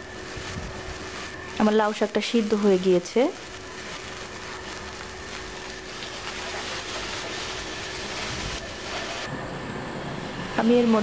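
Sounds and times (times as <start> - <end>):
leaves sizzling in a pan: 0.0 - 9.3
spatula turning food: 0.0 - 9.3.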